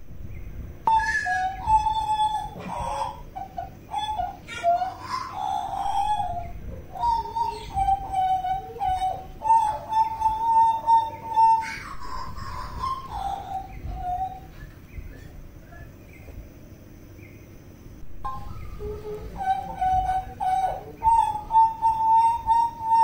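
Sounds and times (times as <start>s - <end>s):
steady low rush: 0.0s - 23.0s
bird whistling song: 0.3s - 16.3s, 18.0s - 23.0s.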